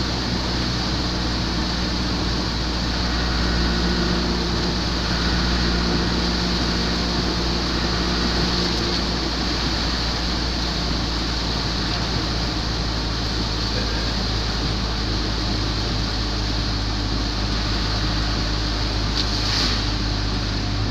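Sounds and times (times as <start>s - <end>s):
heavy rain: 0.0s - 20.9s
low engine drone: 0.0s - 20.9s
tyre hiss on wet road: 0.0s - 20.9s.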